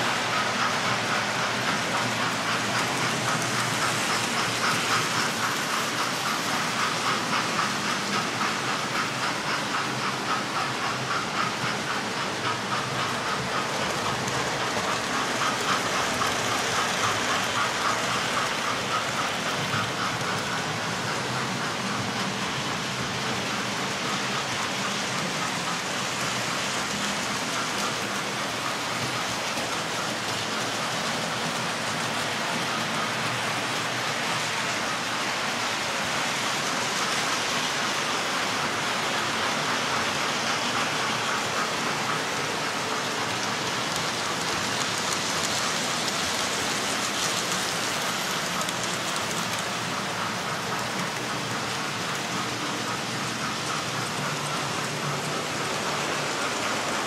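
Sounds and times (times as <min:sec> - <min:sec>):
model trains rattling on track: 0:00.0 - 0:57.0.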